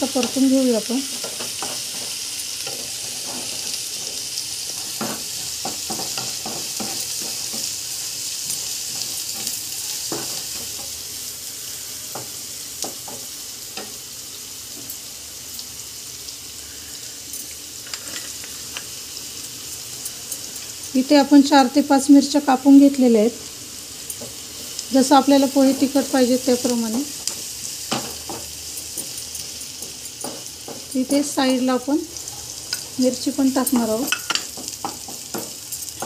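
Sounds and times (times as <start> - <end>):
onion sizzling in hot oil: 0.0 - 36.0.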